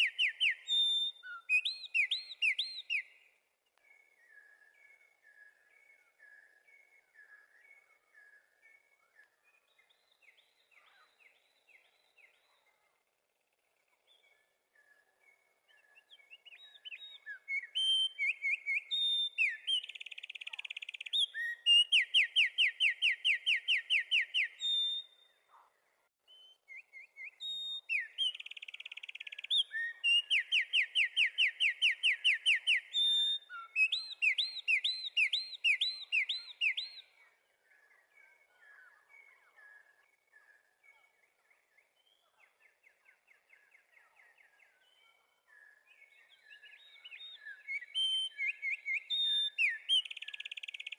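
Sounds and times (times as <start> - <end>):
songbird singing trills: 0.0 - 13.0, 13.6 - 25.6, 26.2 - 50.9
faint bird chirps: 0.0 - 50.9.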